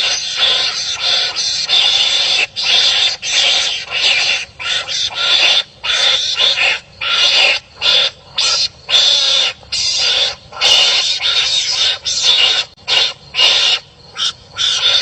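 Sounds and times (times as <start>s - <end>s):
animals barking harshly: 0.0s - 15.0s.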